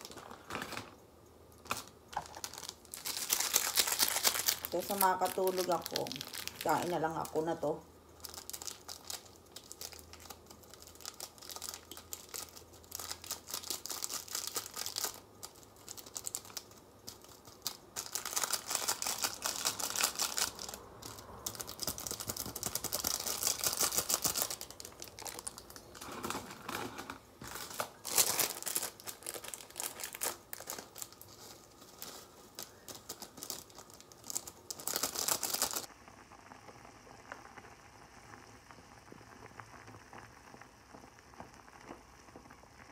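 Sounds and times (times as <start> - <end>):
foil sachets crinkling: 0.0 - 1.0, 1.6 - 35.9
faint steady hiss: 0.0 - 42.9.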